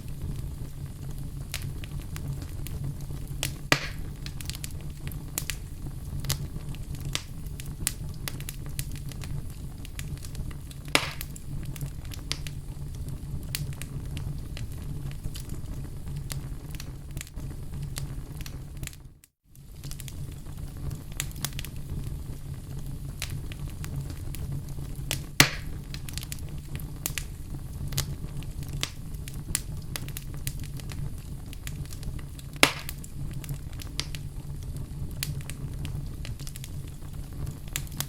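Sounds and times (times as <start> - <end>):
loud pops of fire: 0.0 - 19.0, 19.6 - 38.0
fire crackling in fireplace: 0.0 - 38.0.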